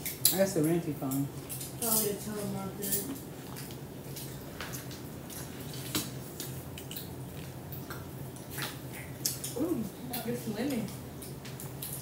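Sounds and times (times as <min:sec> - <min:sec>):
tongs and dishes clicking: 0:00.0 - 0:07.1, 0:08.6 - 0:12.0
low steady hum: 0:00.0 - 0:12.0.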